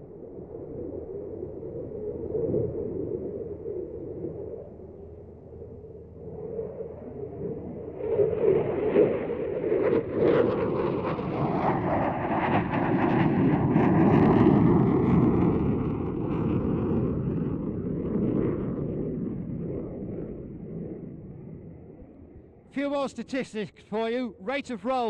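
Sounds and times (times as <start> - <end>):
jet aircraft passing overhead: 0.0 - 25.0.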